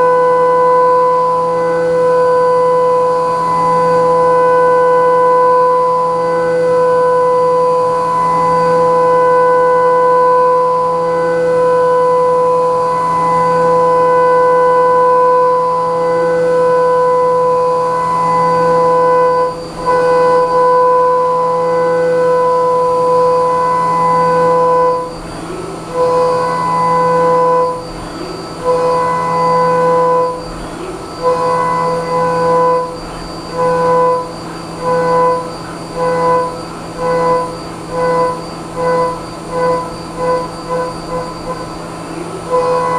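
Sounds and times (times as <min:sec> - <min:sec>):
high-pitched milling tone: 0:00.0 - 0:42.9
spindle hum: 0:00.0 - 0:42.9.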